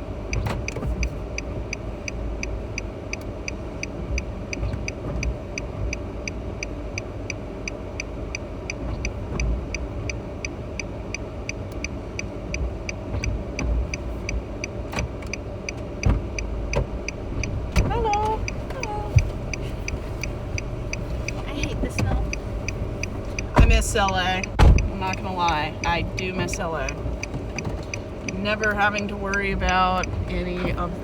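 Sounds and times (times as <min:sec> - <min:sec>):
low road rumble: 0:00.0 - 0:31.0
rapid dashboard ticking: 0:00.0 - 0:31.0.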